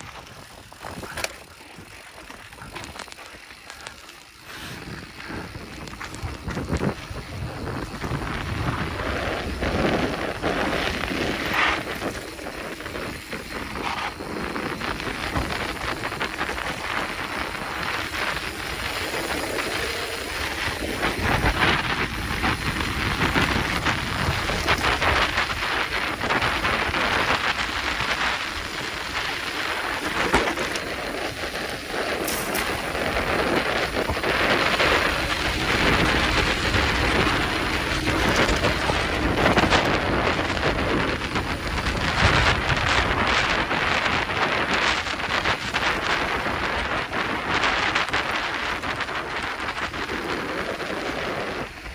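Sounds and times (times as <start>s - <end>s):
tyres crunching on dirt: 0.0s - 47.6s
bike rattling over bumps: 0.0s - 51.9s
wind on microphone: 0.0s - 51.9s.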